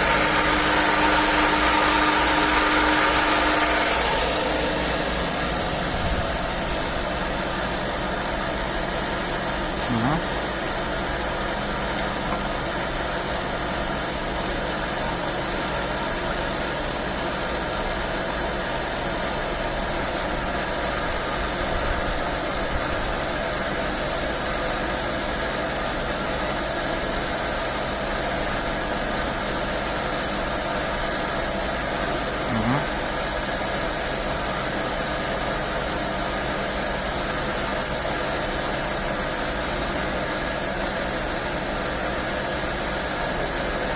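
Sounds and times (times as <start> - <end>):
milling machine humming: 0.0 - 43.9.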